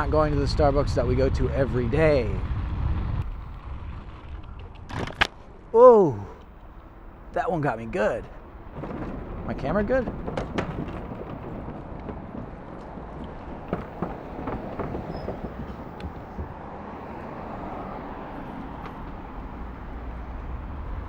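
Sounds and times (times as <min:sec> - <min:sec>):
scooter tyres rolling on dirt: 0:00.0 - 0:05.8, 0:06.4 - 0:21.0.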